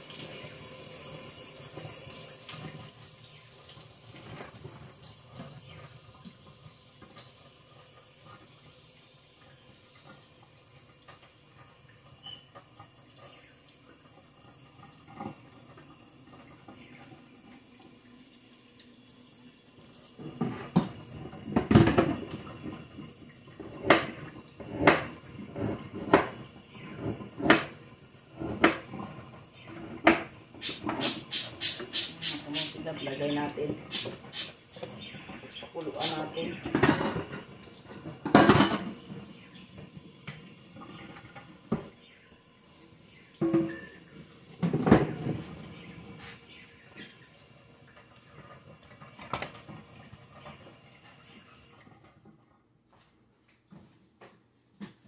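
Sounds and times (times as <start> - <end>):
water running in a sink: 0.0 - 52.9.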